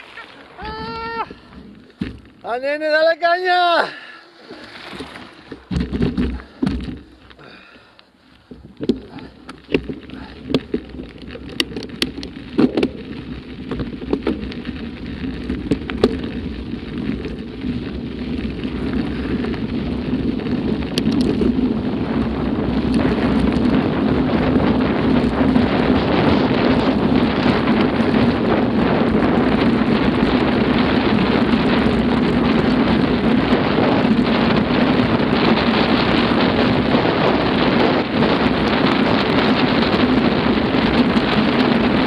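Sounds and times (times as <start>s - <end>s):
stones and bike rattling: 0.0s - 3.5s, 4.4s - 42.0s
bicycle tyres crunching on gravel: 0.0s - 42.0s.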